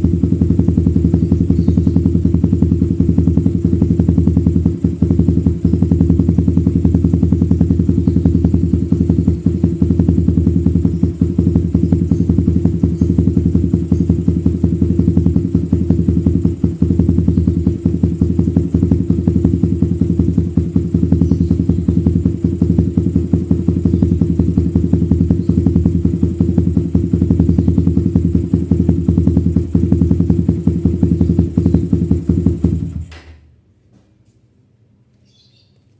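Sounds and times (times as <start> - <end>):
motorcycle engine idling: 0.0 - 33.4.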